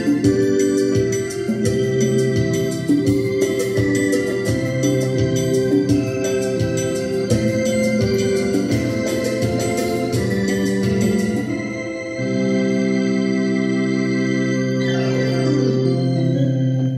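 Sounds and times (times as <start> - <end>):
electronic keyboard organ chords: 0.0 - 16.9.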